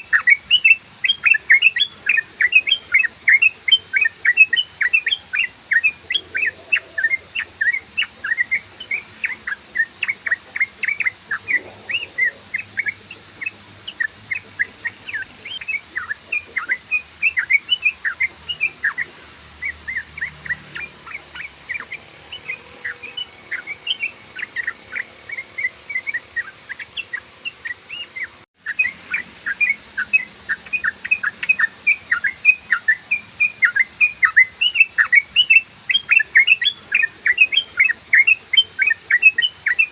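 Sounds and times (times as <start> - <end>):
bird singing sharp chirping notes: 0.0 - 39.9.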